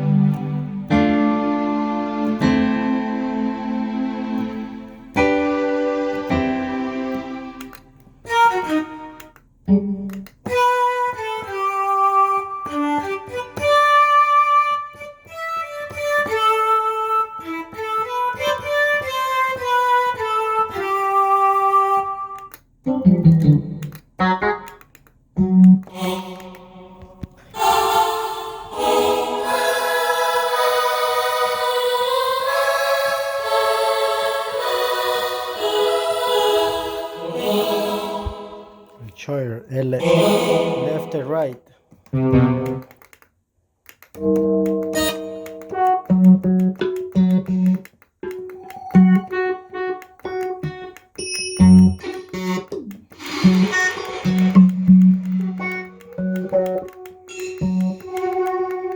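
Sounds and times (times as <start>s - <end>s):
synthesizer notes and chords: 0.0s - 11.6s, 21.4s - 39.1s, 39.9s - 43.2s, 44.1s - 58.9s.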